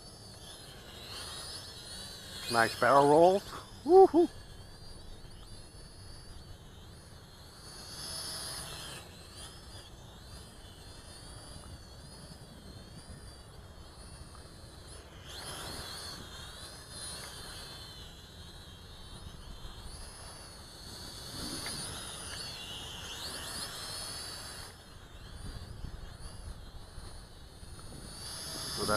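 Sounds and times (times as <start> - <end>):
toy drone motors whining: 0.0 - 28.9.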